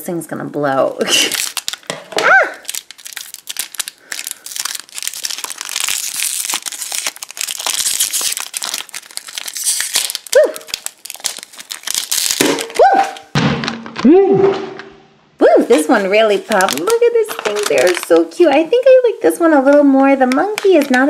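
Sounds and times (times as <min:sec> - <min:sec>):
foil packet crinkling: 0:01.0 - 0:14.0, 0:15.4 - 0:21.0.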